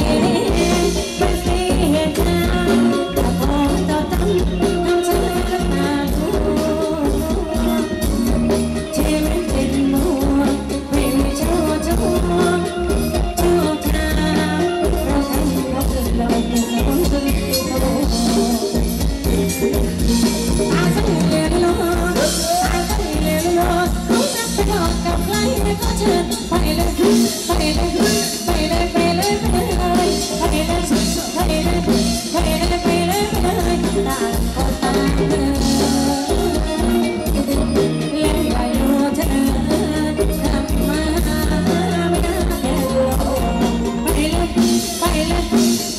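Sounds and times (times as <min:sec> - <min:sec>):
live band playing dance music: 0:00.0 - 0:45.9
person singing: 0:00.0 - 0:45.9.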